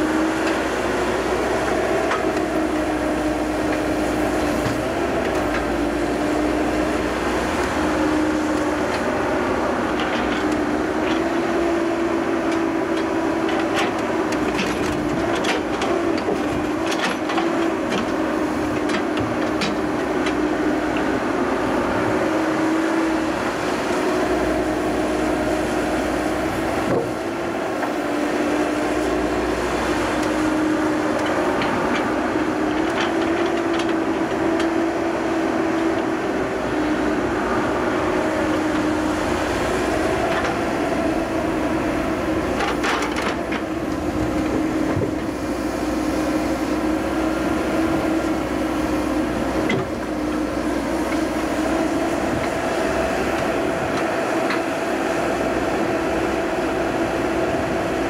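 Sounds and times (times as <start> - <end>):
excavator diesel engine and hydraulics: 0.0 - 58.0.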